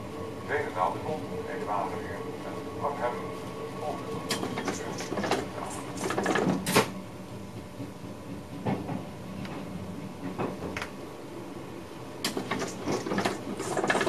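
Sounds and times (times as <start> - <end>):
train running hum: 0.0 - 14.0.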